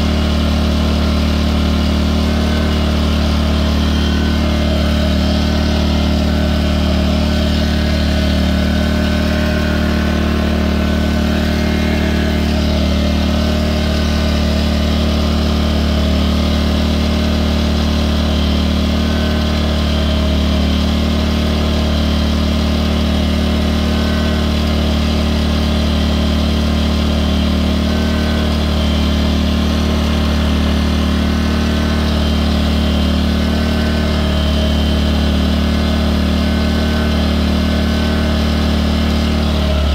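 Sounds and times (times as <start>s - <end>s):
generator running: 0.0s - 39.9s.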